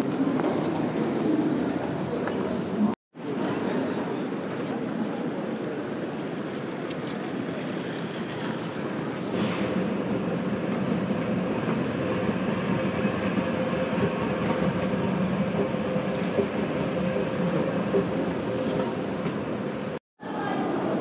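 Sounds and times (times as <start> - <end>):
echoing terminal hall noise: 0.0 - 21.0.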